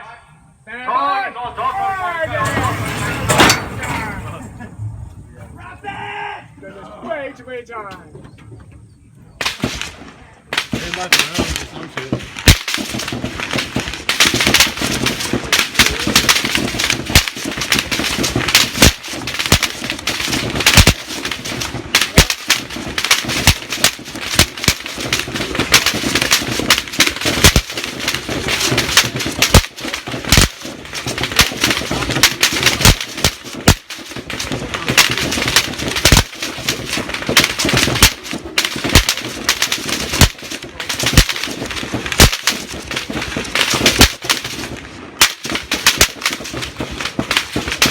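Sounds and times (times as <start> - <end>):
bullets cracking overhead: 9.4 - 47.9
rifle fire: 9.4 - 47.9.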